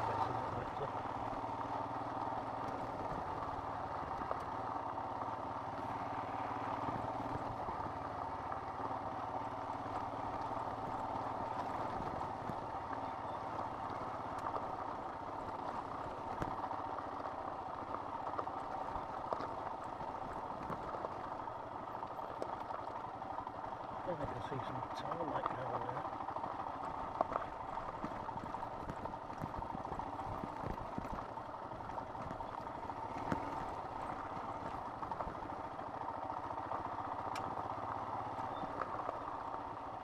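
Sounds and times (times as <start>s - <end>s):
gravel clicking under tyres: 0.0s - 40.0s
motorcycle engine running: 0.0s - 40.0s.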